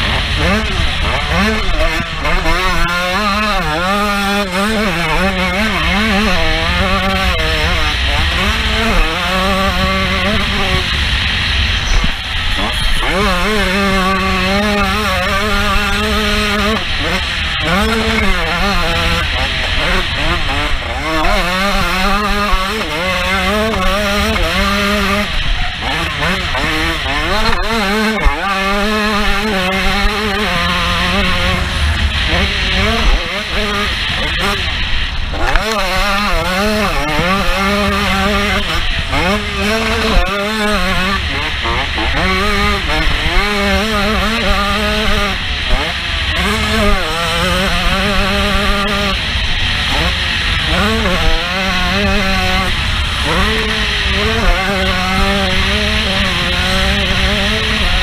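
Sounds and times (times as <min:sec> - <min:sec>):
motocross bike engine at high revs: 0:00.0 - 0:58.0.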